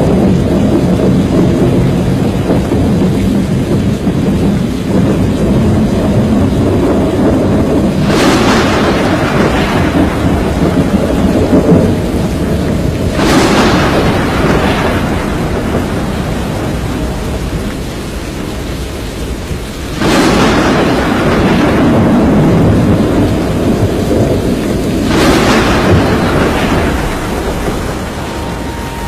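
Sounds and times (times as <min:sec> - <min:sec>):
heavy rain: 0:00.0 - 0:29.0
rolling thunder: 0:00.0 - 0:29.0
thunder crack: 0:00.0 - 0:29.0.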